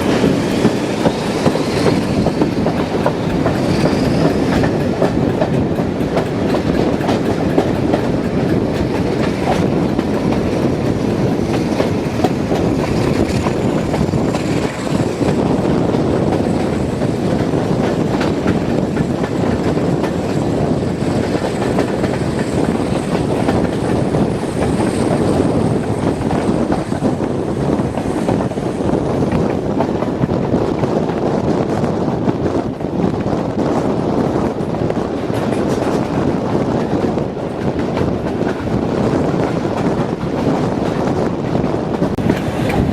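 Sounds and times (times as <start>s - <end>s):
wheels clacking over rail joints: 0.0s - 31.2s, 34.5s - 42.9s
train rumbling: 0.0s - 42.9s.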